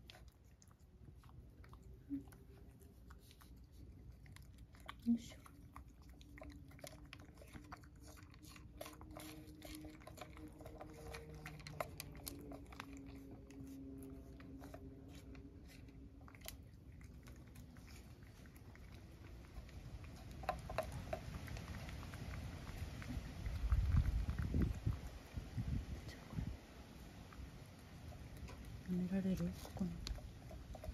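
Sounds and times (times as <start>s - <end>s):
cat licking: 0.0s - 30.9s.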